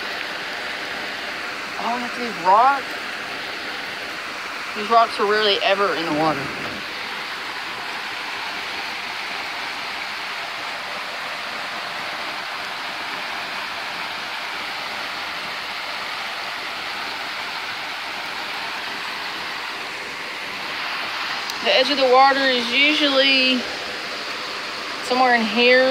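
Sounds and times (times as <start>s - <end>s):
creek water rushing over rocks: 0.0s - 25.9s
rain falling: 0.0s - 25.9s.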